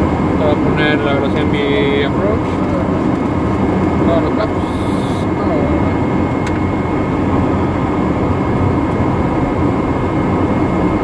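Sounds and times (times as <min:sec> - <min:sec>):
high-pitched whine: 0:00.0 - 0:11.0
jet engines humming: 0:00.0 - 0:11.0.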